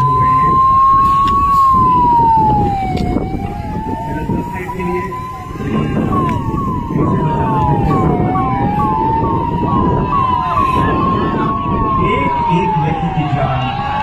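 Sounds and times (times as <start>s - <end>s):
siren quick falling chirps: 0.0s - 14.0s
wailing siren: 0.0s - 14.0s.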